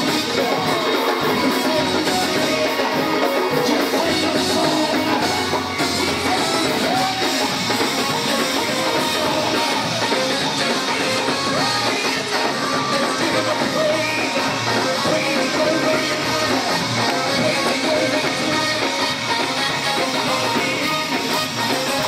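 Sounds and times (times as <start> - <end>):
gospel band with drums and organ: 0.0 - 22.0
man singing into a microphone: 0.0 - 22.0.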